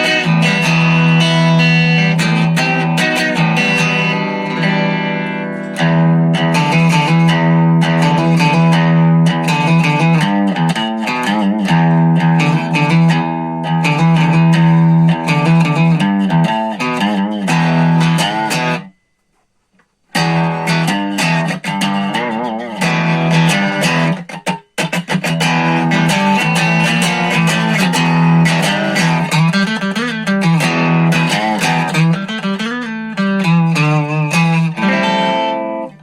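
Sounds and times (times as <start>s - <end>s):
electric guitar through amp: 0.0s - 19.4s, 20.1s - 36.0s.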